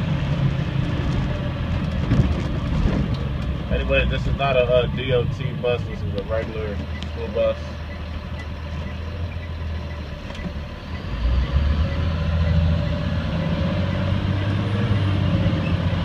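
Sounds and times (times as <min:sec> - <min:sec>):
bus diesel engine accelerating: 0:00.0 - 0:16.0.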